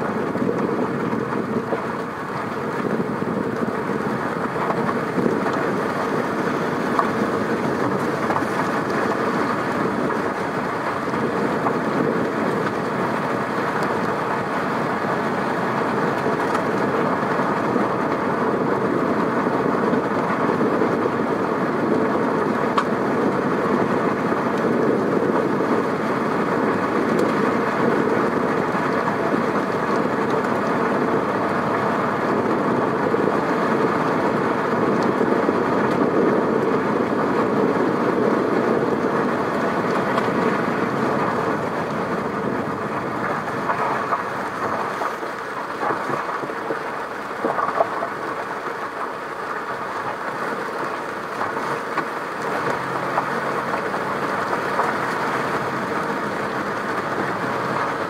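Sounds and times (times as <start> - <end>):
car road noise: 0.0 - 58.0.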